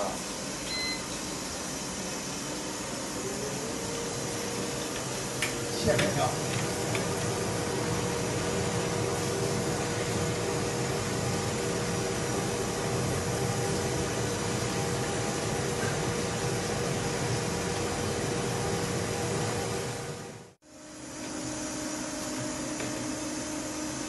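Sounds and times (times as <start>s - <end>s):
noodle boiler rolling boil: 0.0s - 24.0s.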